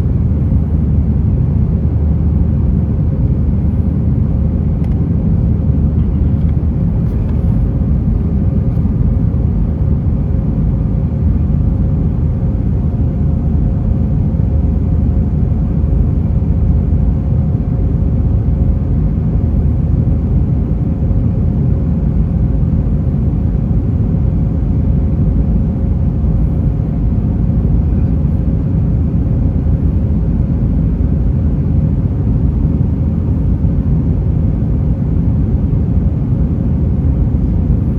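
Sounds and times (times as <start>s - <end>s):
airliner engines rumbling in cabin: 0.0s - 37.9s
faint steady hum: 0.0s - 37.9s.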